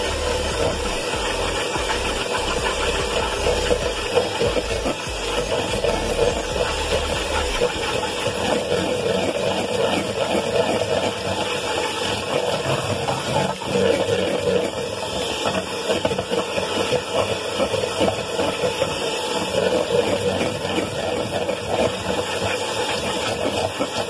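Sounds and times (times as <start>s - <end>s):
electric hand mixer whisking: 0.0s - 24.0s.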